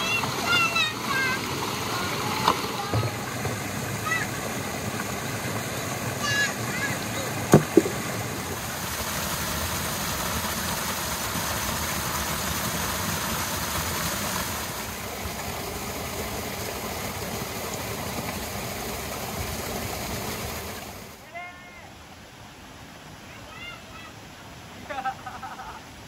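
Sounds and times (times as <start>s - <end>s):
river rushing over rocks: 0.0s - 24.8s.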